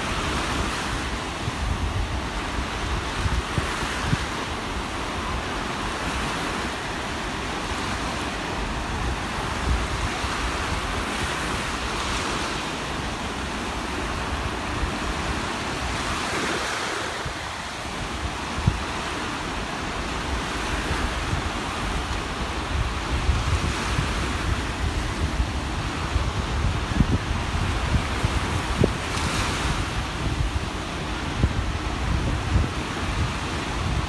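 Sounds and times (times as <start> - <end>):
sea waves breaking: 0.0 - 34.0
wind rumbling on microphone: 0.0 - 34.0.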